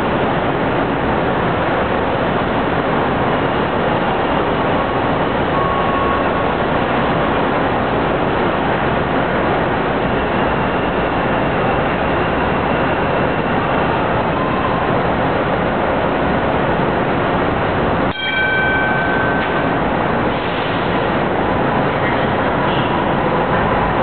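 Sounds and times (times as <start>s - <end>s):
light rail car noise: 0.0s - 24.0s.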